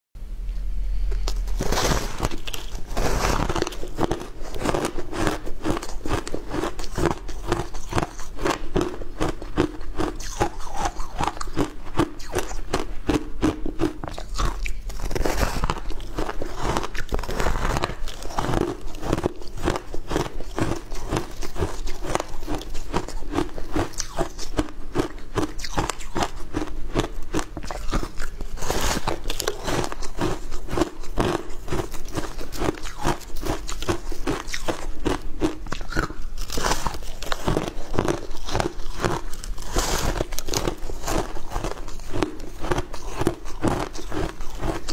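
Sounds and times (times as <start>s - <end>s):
crunching frozen shaved ice: 1.2s - 44.9s.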